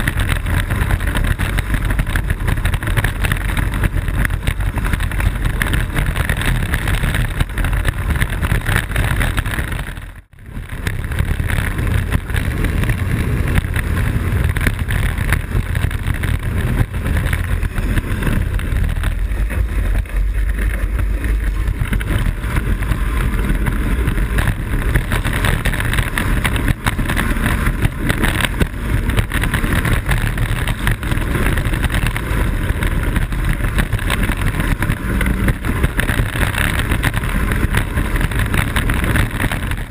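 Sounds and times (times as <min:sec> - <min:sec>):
low rolling rumble: 0:00.0 - 0:39.9
wind rush on microphone: 0:00.0 - 0:39.9.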